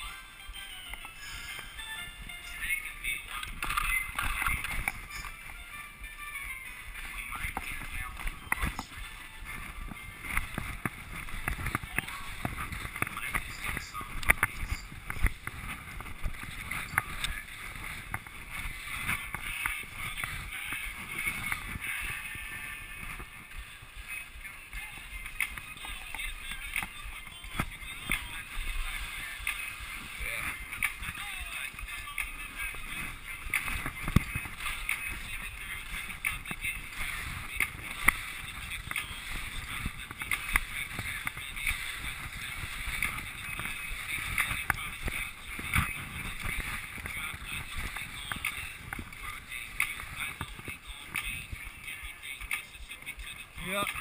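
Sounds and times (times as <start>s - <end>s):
wind rumble on microphone: 6.7s - 53.6s
skis scraping over snow: 6.7s - 54.0s.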